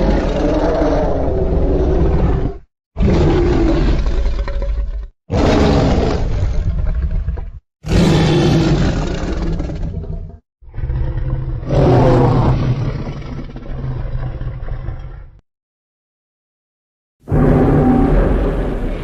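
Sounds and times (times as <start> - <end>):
deep rasping monster roars: 0.0 - 7.2, 7.8 - 15.4, 17.3 - 19.0.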